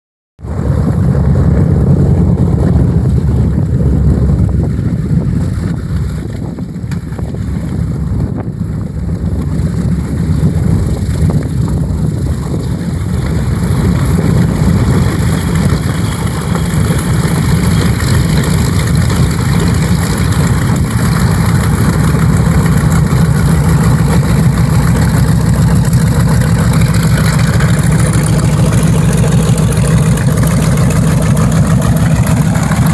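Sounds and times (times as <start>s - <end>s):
radial aircraft engines droning: 0.5s - 32.9s.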